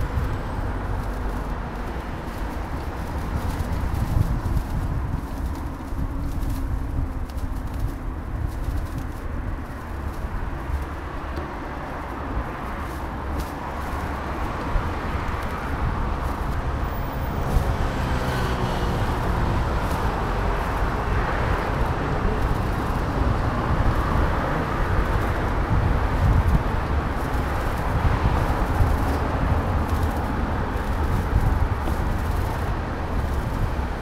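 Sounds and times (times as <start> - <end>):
cars passing: 0.0 - 34.0
steady low rumble: 0.0 - 34.0.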